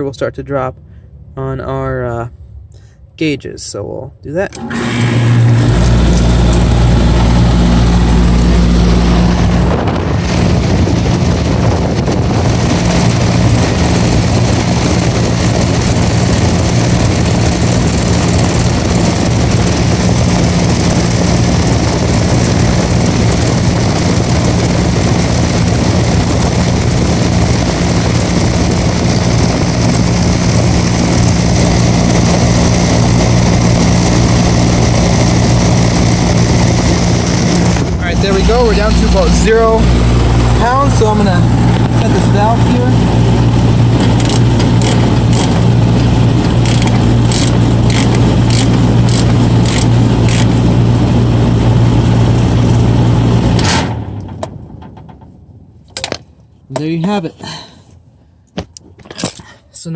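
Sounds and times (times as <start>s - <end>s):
condenser fan rushing: 4.3s - 55.4s
compressor humming: 4.3s - 59.9s.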